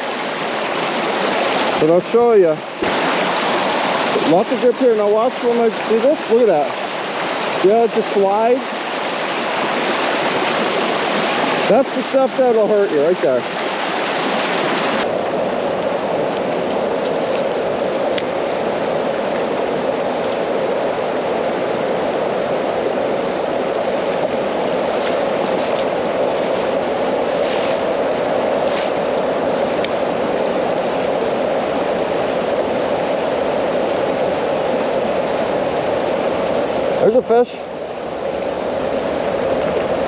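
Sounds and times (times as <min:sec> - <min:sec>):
water rushing over rocks: 0:00.0 - 0:40.0.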